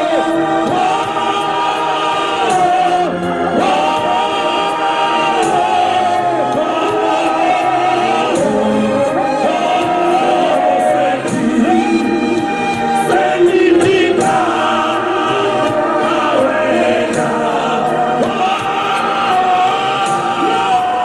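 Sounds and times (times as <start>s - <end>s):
congregation singing a hymn: 0.0s - 21.0s
steady beat: 0.3s - 21.0s.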